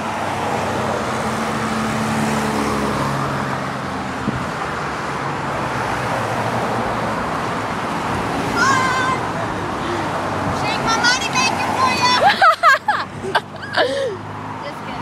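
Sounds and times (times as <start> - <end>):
road traffic passing: 0.0 - 15.0
vehicle engine humming: 0.0 - 15.0.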